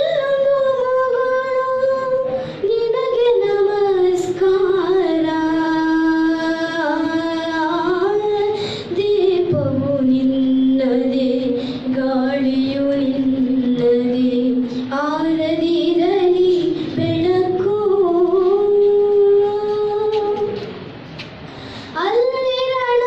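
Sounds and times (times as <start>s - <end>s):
boy singing into a microphone: 0.0s - 20.8s, 21.7s - 23.0s.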